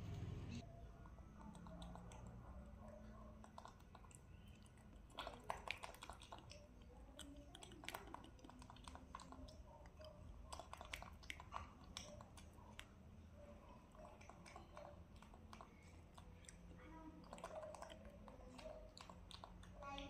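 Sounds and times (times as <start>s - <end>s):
monkey chewing and biting: 1.3s - 2.5s, 3.3s - 13.0s, 13.8s - 20.0s.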